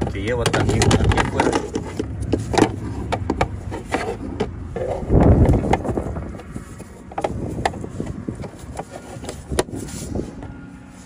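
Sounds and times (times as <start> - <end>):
plastic panel rustling scrape: 0.0 - 11.0.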